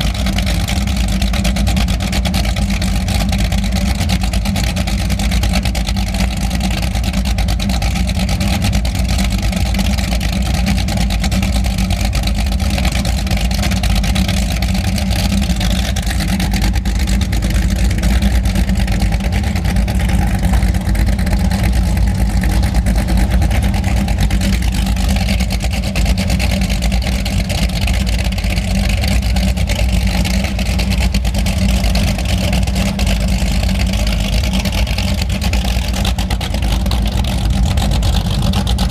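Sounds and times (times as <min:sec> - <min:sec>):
powerboat engines idling: 0:00.0 - 0:38.9.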